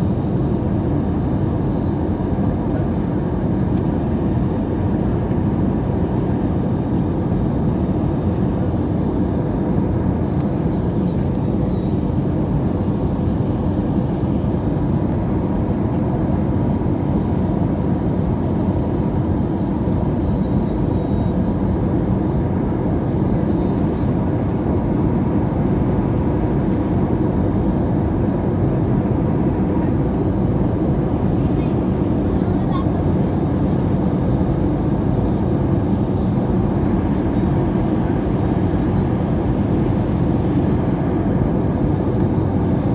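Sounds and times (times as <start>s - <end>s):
airliner cabin engine and airflow rush: 0.0s - 42.9s.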